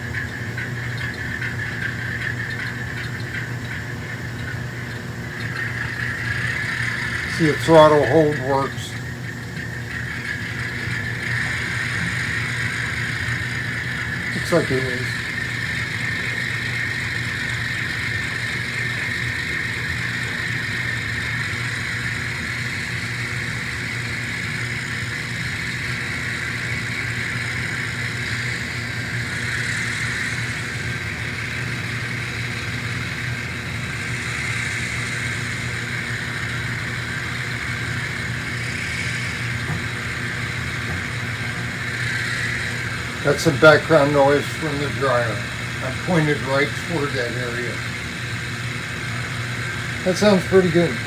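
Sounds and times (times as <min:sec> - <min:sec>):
clothes dryer running: 0:00.0 - 0:51.0
diesel engine sound from small speakers: 0:00.0 - 0:51.0.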